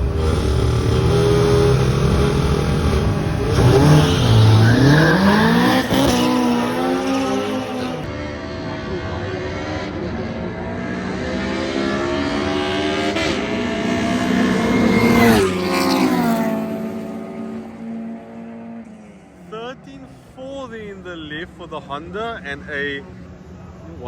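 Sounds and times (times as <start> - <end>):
race car engine accelerating: 0.0 - 19.3.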